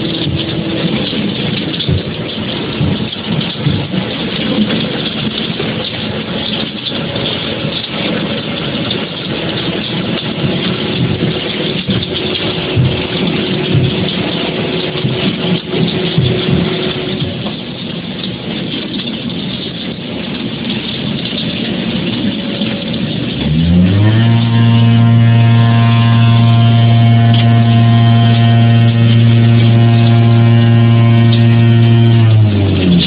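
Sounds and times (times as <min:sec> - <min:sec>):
deep loud machine hum: 0:00.0 - 0:33.0
mechanical clatter: 0:00.0 - 0:33.0.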